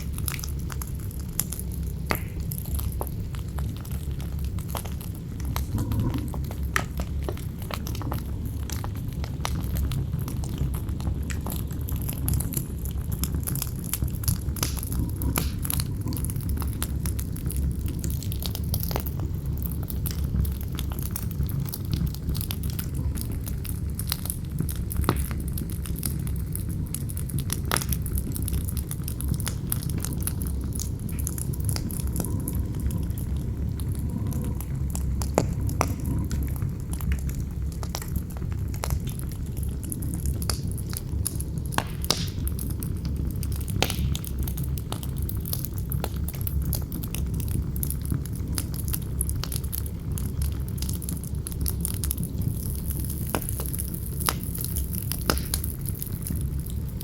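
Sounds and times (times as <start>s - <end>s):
campfire crackling and popping: 0.0s - 57.0s
low rumble of wind: 0.0s - 57.0s.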